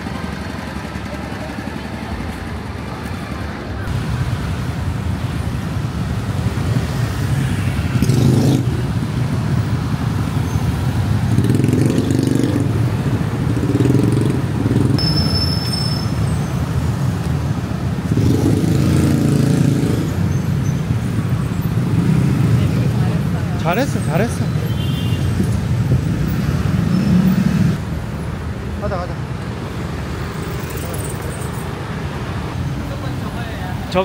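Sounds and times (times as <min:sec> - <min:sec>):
cars and motorcycles passing: 0:00.0 - 0:34.0.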